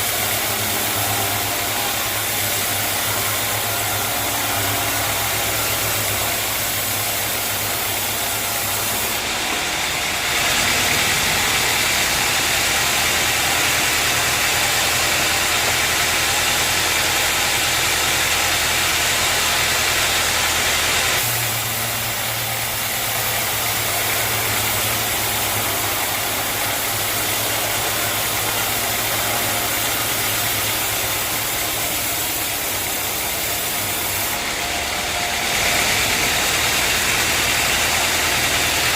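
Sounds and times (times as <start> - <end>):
engine hum: 0.0 - 38.9
sawmill sawing noise: 0.0 - 38.9.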